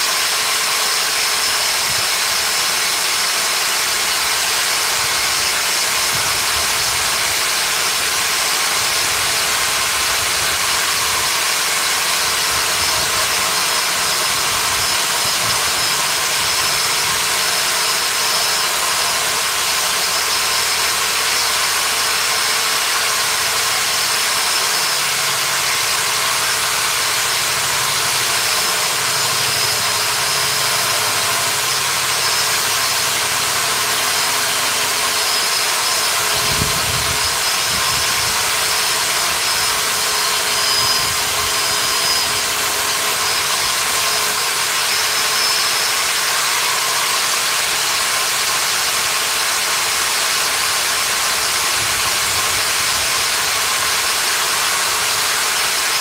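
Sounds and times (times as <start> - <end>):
power tool running with whine: 0.0 - 56.0.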